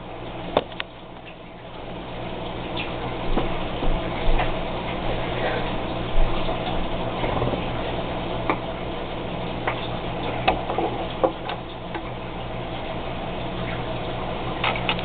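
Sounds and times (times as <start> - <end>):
steady low hum: 0.0 - 15.0
water trickling into a tank: 0.0 - 15.0
water drips and plinks: 0.1 - 15.0.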